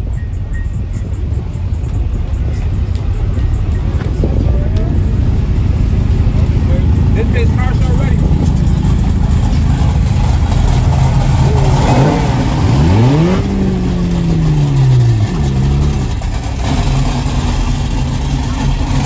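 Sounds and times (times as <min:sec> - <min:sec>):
car engine revving: 0:00.0 - 0:19.0
low engine rumble: 0:00.0 - 0:19.0.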